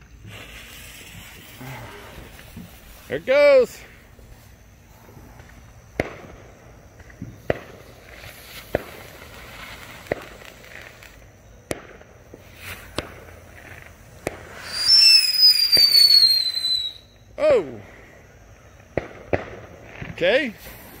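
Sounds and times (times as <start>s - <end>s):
firework sharp pops: 0.0s - 17.3s, 18.4s - 21.0s
firework low crackle: 0.0s - 21.0s.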